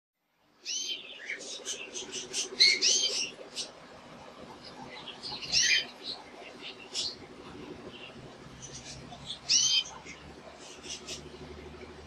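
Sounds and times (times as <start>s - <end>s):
canary singing: 0.6s - 12.0s.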